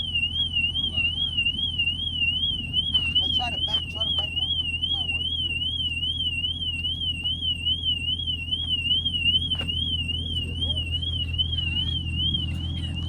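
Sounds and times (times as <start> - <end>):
car alarm warbling: 0.0 - 13.0
steady low hum: 0.0 - 13.0.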